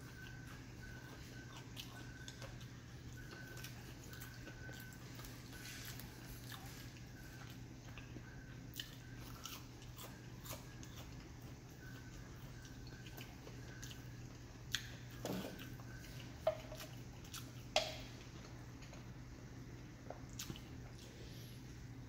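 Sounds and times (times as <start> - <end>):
faint eating sounds: 0.0 - 22.0
low steady hum: 0.0 - 22.0.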